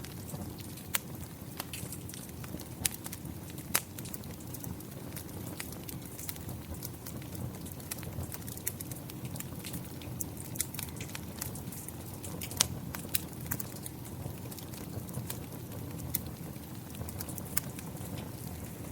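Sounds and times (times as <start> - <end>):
rain: 0.0 - 18.9
wood fire crackling and popping: 0.0 - 18.9.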